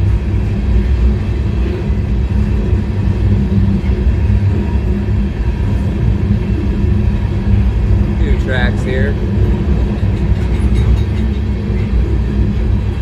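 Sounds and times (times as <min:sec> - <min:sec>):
freight car wheels rolling on rails: 0:00.0 - 0:13.0.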